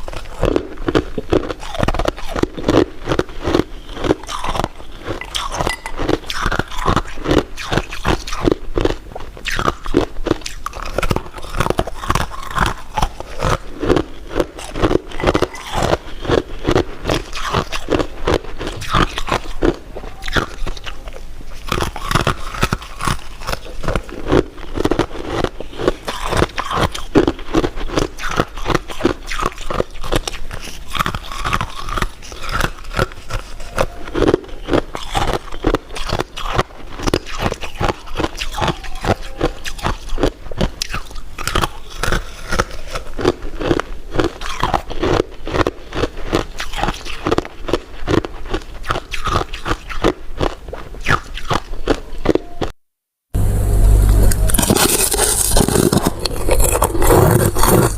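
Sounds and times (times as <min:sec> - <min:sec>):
crunching and chewing food: 0:00.0 - 0:52.8, 0:53.9 - 0:57.9.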